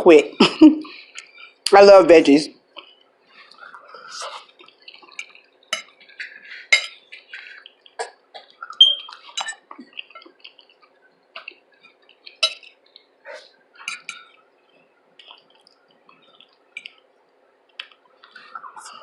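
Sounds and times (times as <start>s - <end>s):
wet chewing and mouth smacking: 0.9s - 1.6s, 2.8s - 18.8s.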